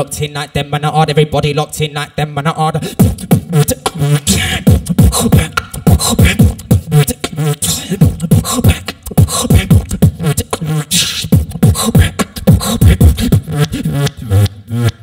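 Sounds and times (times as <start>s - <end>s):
beatboxing through microphone: 0.0s - 15.0s.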